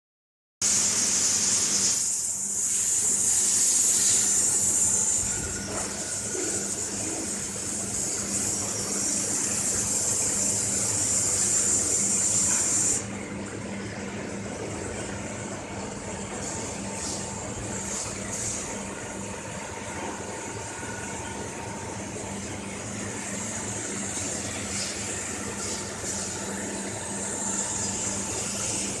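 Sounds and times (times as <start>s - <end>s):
loud high hiss from presses: 0.6s - 13.2s, 15.4s - 29.0s
low machine hum: 2.3s - 29.0s.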